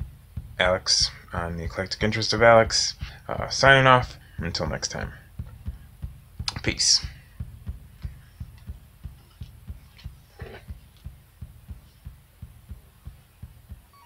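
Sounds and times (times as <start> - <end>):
low thumping pulse: 0.0 - 14.0.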